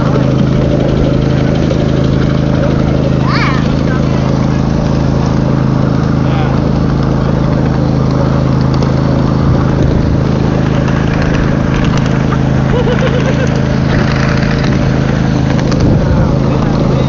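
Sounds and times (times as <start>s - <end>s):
miniature train engine drone: 0.0s - 17.0s.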